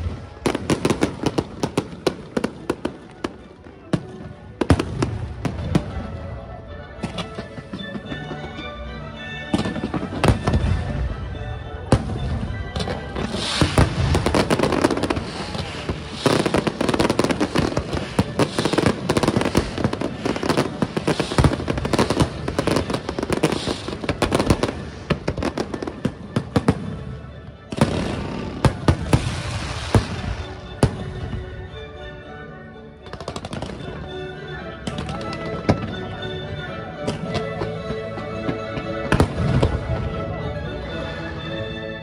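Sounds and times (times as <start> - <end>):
fireworks bangs and crackling: 0.0 - 8.6, 9.4 - 31.8, 33.0 - 34.2, 37.0 - 40.9.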